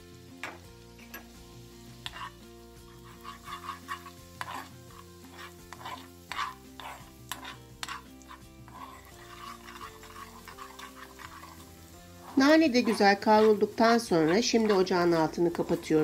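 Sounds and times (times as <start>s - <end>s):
butter sizzling: 0.0s - 16.0s
metal spoon scraping saucepan: 2.0s - 16.0s.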